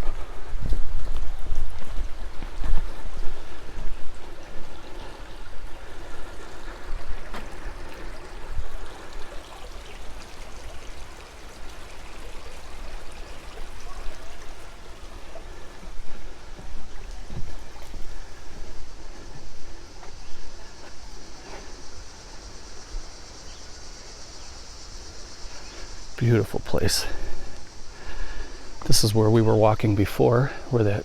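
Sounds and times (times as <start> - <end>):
creek trickling: 0.0 - 31.0.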